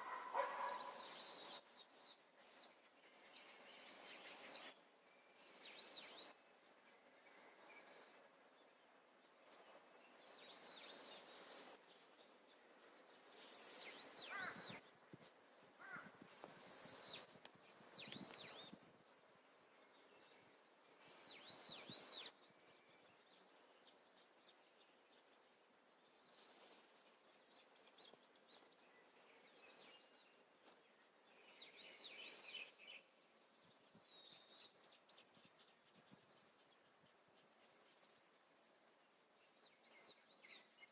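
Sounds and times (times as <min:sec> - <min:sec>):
background hiss: 0:00.0 - 0:40.9
small birds chirping: 0:00.0 - 0:40.9.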